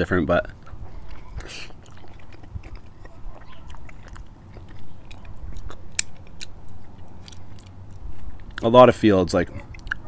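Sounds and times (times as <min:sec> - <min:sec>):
chewing and biting food: 0:00.3 - 0:10.0
wet mouth clicks and smacks: 0:00.6 - 0:08.7, 0:09.5 - 0:10.0.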